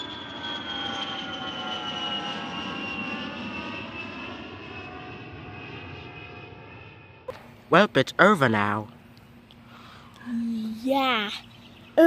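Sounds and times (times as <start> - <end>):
jet engines passing overhead: 0.0 - 12.0.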